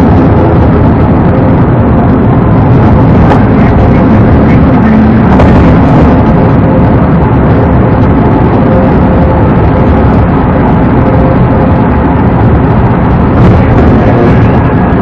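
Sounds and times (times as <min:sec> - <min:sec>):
car road and wind rumble: 0:00.0 - 0:15.0.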